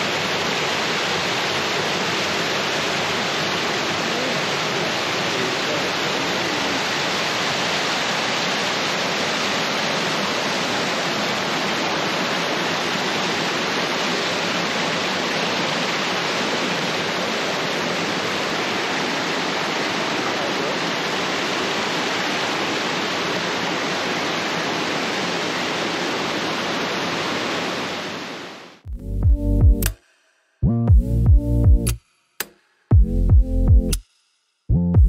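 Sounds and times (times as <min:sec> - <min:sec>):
waterfall rushing: 0:00.0 - 0:28.8.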